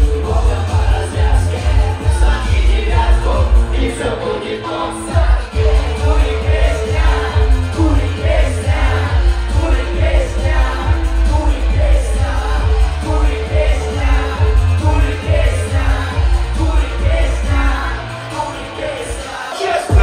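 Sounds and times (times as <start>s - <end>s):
bass-heavy beat: 0.0s - 4.2s, 4.9s - 19.2s
pop song with singing: 0.0s - 20.0s.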